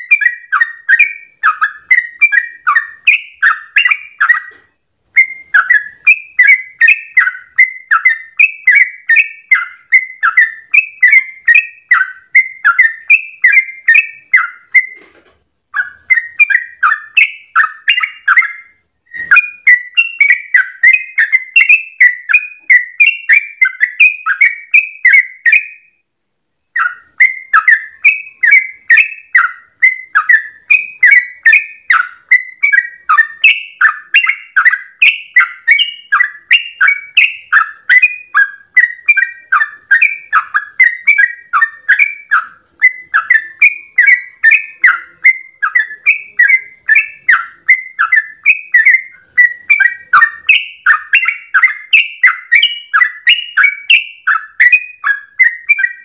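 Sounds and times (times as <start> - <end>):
bulbul singing bubbly chirps: 0.0 - 15.0, 15.7 - 25.9, 26.8 - 56.0.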